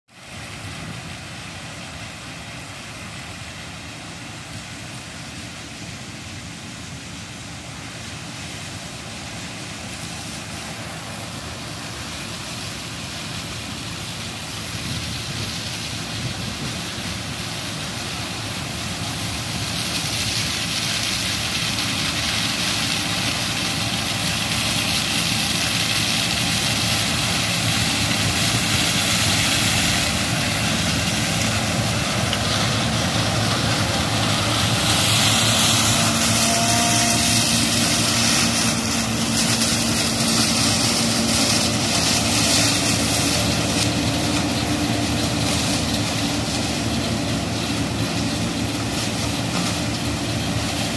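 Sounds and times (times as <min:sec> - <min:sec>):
combine harvester running: 0:00.1 - 0:50.9.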